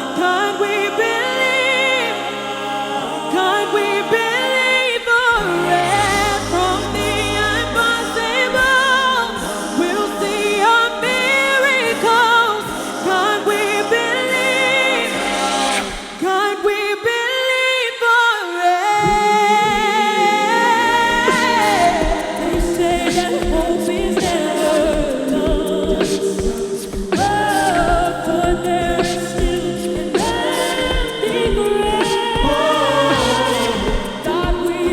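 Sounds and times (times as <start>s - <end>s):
vocal group singing in harmony: 0.0s - 34.9s.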